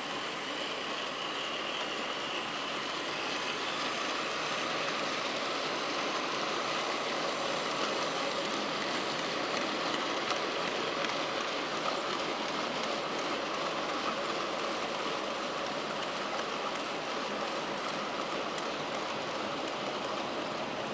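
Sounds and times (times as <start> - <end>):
model train rushing: 0.0 - 20.9.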